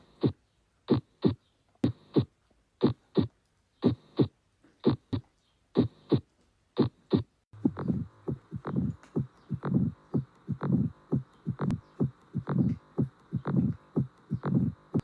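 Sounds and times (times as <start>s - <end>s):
heartbeat lub-dub: 0.0s - 5.2s, 5.8s - 6.2s, 6.8s - 15.0s.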